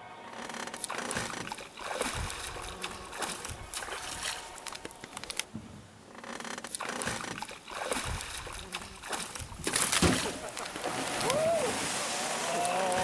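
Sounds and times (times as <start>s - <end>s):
water splashing and sloshing: 0.3s - 13.0s.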